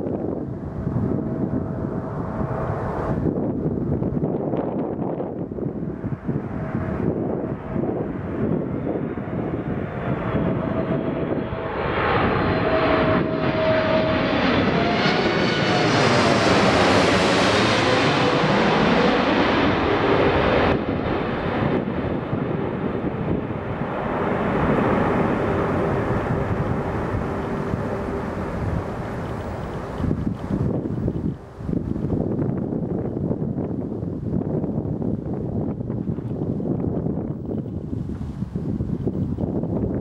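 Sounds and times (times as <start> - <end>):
jet engines rumbling and whining: 0.0 - 37.9.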